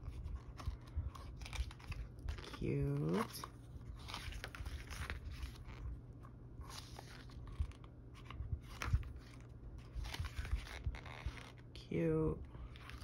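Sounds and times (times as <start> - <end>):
book pages turning: 0.0 - 11.8, 12.6 - 13.0.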